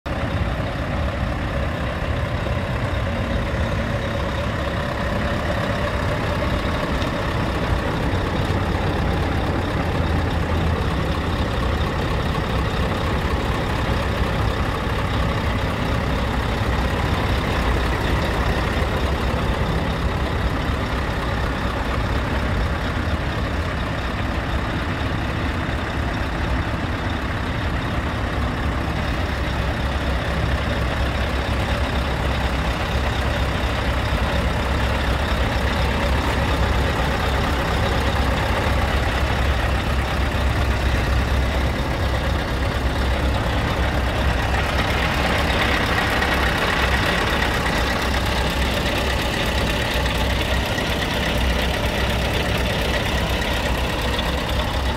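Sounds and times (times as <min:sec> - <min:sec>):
truck diesel engine idling: 0:00.0 - 0:54.9.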